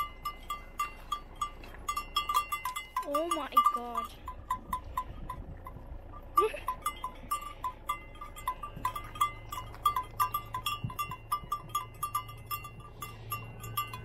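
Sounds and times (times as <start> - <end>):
sheep bell clinking: 0.0 - 14.0.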